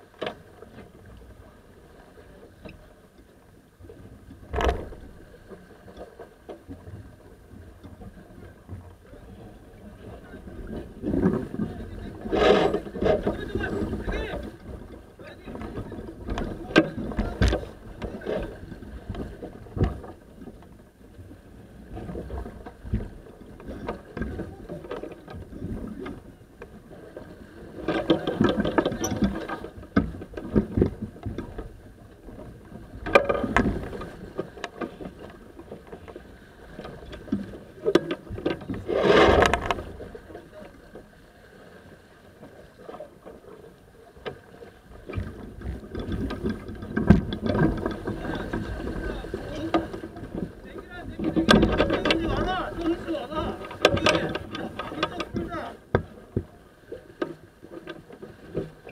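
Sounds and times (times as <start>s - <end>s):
wind and water rushing along hull: 0.0s - 58.9s.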